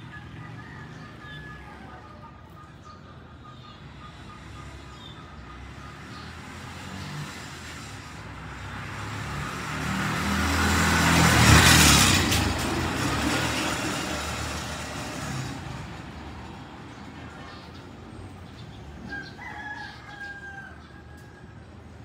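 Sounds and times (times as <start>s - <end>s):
vehicle passing by: 4.0s - 22.0s.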